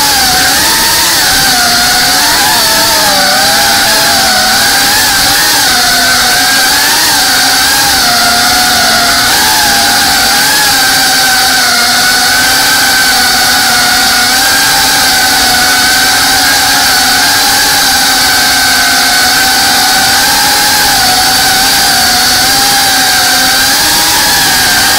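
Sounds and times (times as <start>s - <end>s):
quadcopter motors whining: 0.0s - 24.9s.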